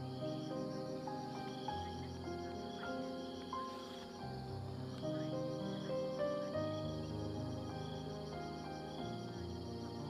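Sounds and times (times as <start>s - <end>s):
faint insect-like chirring: 0.0s - 10.0s
soft background music: 0.0s - 10.0s.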